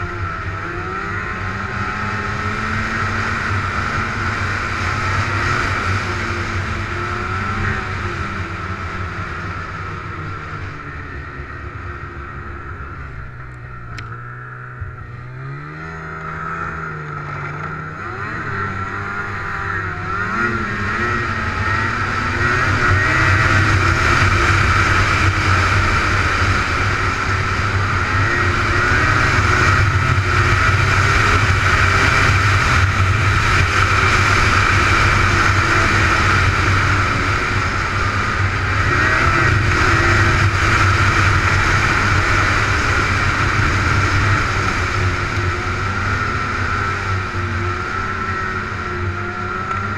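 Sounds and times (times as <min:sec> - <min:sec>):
snowmobile engine accelerating: 0:00.0 - 0:49.9.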